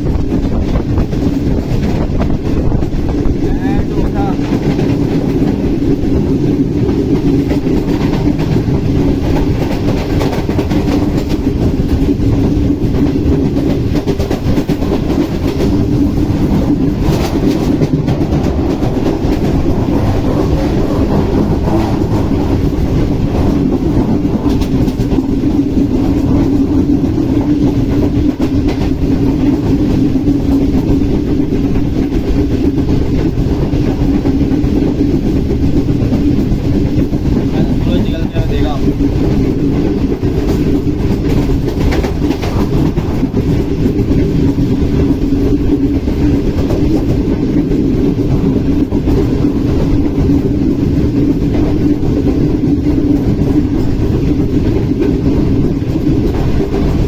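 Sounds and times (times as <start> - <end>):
train wheels rumbling on rails: 0.0 - 57.0
wheels clacking over rail joints: 0.0 - 57.0.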